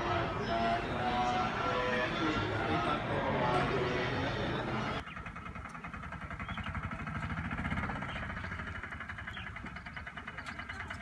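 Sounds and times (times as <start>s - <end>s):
small engine idling: 0.0s - 11.0s
voices: 0.0s - 11.0s.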